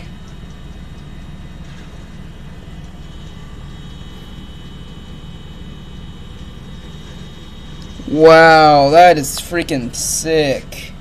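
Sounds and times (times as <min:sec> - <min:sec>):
hard drive spinning whine: 0:00.0 - 0:11.0.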